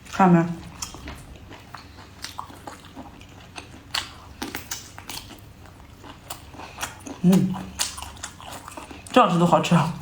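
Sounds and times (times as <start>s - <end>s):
person chewing: 0.0s - 9.4s.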